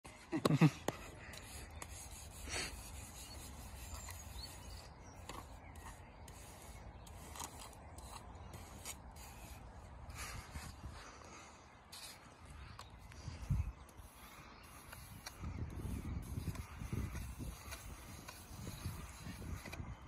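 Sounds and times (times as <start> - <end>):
sand scraping on a tray: 0.5 - 10.4, 13.4 - 20.0.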